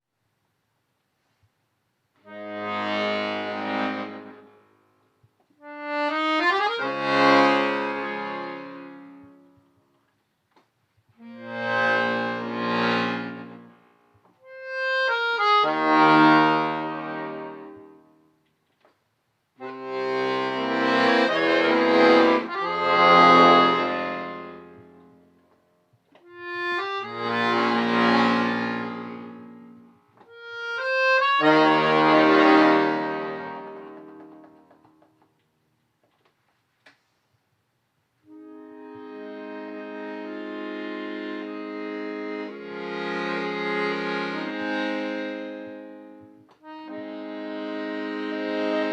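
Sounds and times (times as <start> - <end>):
accordion playing chords: 2.2 - 10.0, 11.1 - 18.4, 19.6 - 35.3, 38.2 - 48.9.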